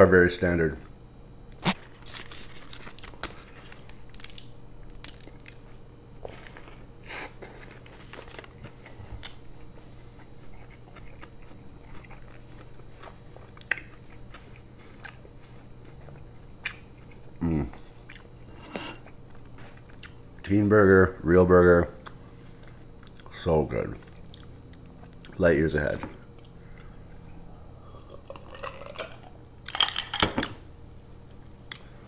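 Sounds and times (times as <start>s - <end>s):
person chewing food: 1.5s - 20.4s, 22.0s - 23.3s, 24.0s - 25.4s, 26.2s - 30.6s.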